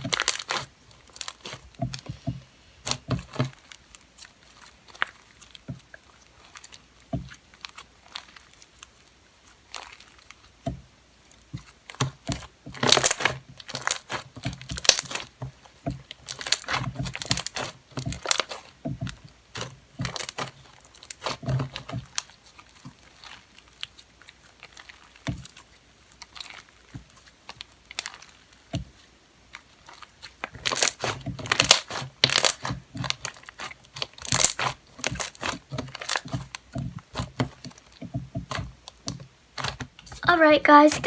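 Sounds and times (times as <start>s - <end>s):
slime crackling and popping: 0.0s - 41.0s.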